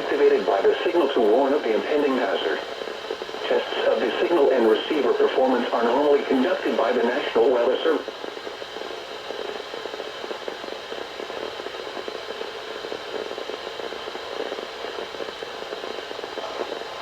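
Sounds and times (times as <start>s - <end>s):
radio static hiss and crackle: 0.0s - 17.0s.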